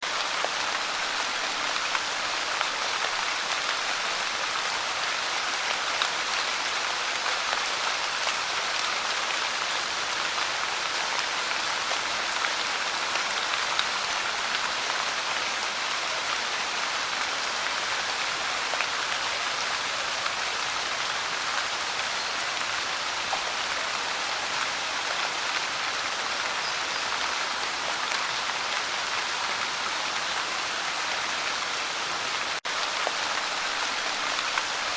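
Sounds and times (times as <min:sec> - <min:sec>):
light rain pattering: 0:00.0 - 0:34.9.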